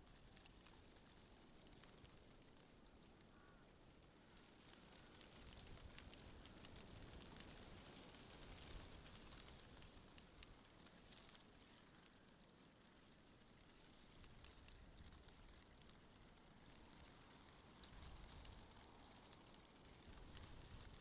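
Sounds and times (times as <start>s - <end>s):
light ticks and crackles: 0.0s - 21.0s.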